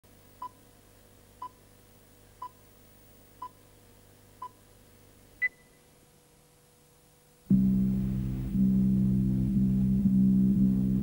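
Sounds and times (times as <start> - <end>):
faint steady hum: 0.1 - 11.0.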